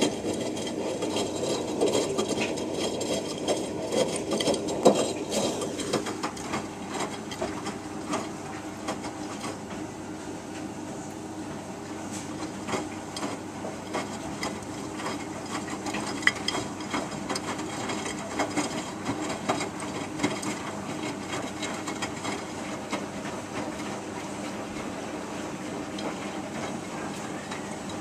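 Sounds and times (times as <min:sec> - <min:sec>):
washing machine drum churning: 0:00.0 - 0:28.0.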